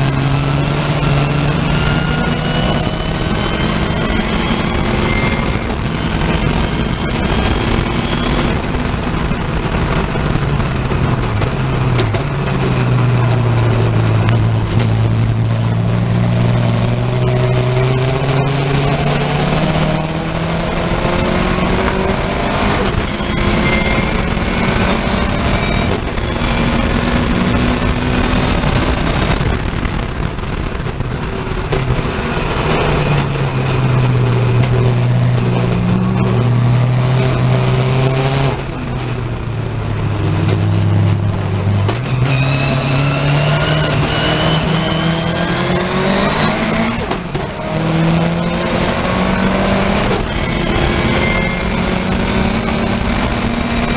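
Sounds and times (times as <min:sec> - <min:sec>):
racing car engine revving: 0:00.0 - 0:53.9
wind and road noise: 0:00.0 - 0:53.9.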